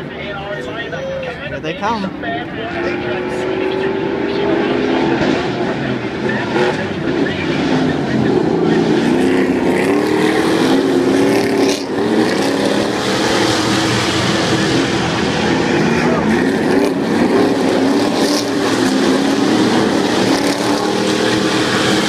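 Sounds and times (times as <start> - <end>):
racing trucks engines revving: 0.0 - 22.0.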